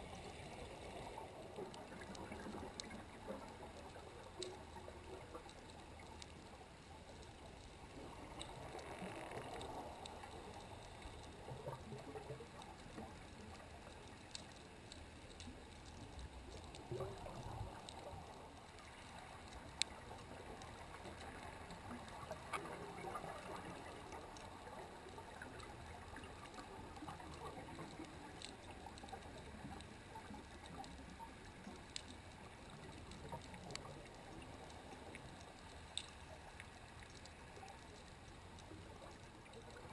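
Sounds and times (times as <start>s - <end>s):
sharp underwater clicks: 0.0s - 39.9s
underwater water wash: 0.0s - 39.9s.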